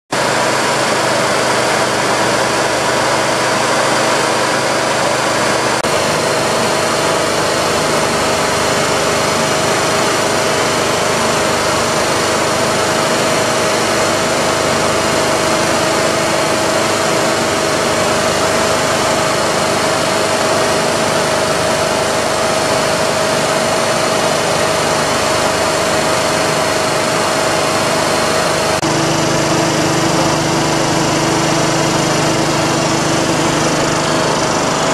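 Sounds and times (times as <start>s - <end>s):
air compressor running: 0.1s - 34.9s.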